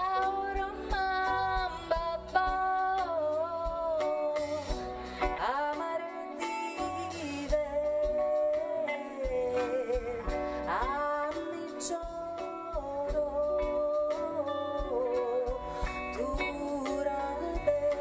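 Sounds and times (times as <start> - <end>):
bass guitar: 0.0 - 18.0
woman singing: 0.0 - 18.0.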